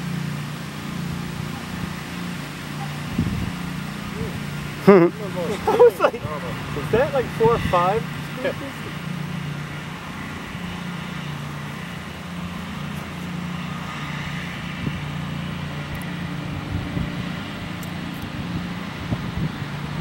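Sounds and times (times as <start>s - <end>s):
propeller aircraft engine droning: 0.0s - 20.0s.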